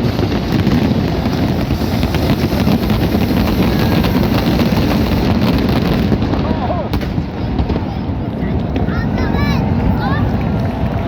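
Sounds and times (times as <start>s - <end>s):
fireworks bursts and crackles: 0.0s - 11.0s.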